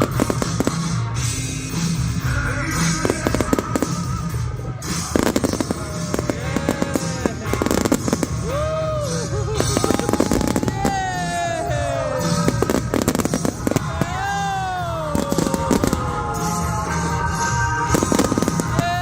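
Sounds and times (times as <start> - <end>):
fireworks crackling bursts: 0.0 - 19.0
music with steady beat: 0.0 - 19.0
whistling rockets: 0.0 - 19.0.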